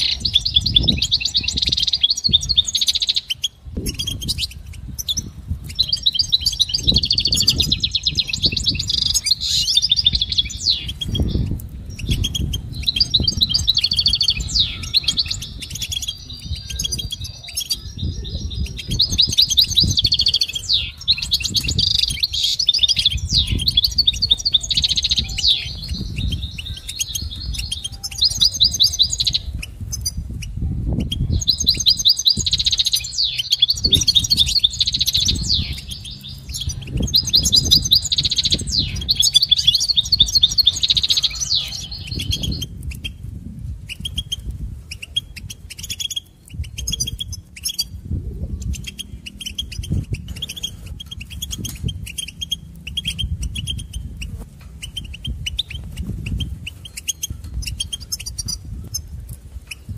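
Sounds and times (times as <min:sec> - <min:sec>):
goldfinch twittering song: 0:00.0 - 0:43.2, 0:43.8 - 0:48.0, 0:48.6 - 0:59.9.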